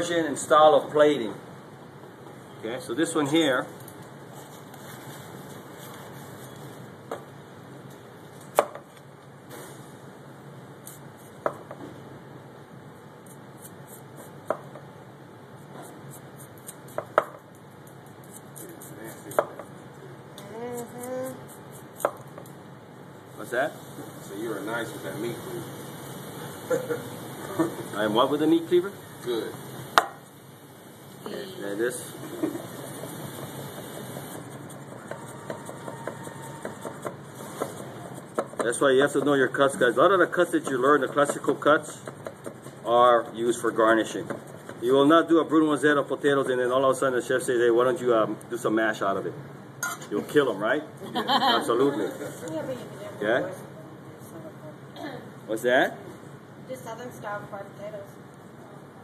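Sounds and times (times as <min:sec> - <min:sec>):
room hum: 0:00.0 - 0:59.0.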